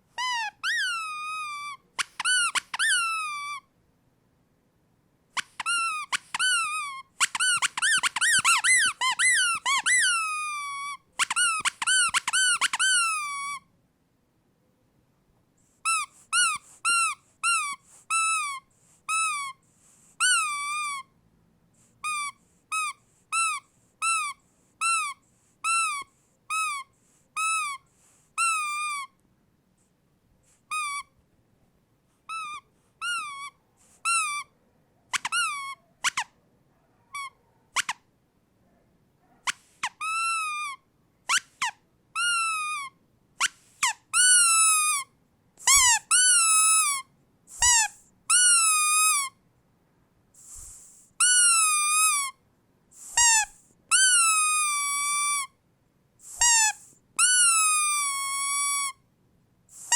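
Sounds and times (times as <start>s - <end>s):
rubber dog toy squeaking: 0.0s - 3.7s, 5.3s - 13.7s, 15.6s - 21.2s, 21.8s - 29.2s, 30.5s - 31.2s, 32.2s - 34.5s, 35.1s - 36.4s, 37.1s - 38.1s, 39.4s - 49.4s, 50.4s - 55.6s, 56.2s - 59.0s.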